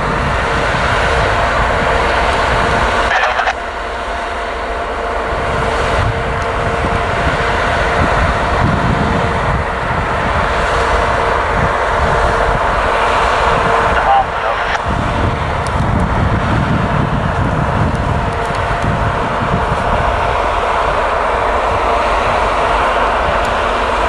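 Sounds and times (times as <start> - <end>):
constant whine: 0.0 - 24.0
diesel locomotive engine drone: 0.0 - 24.0.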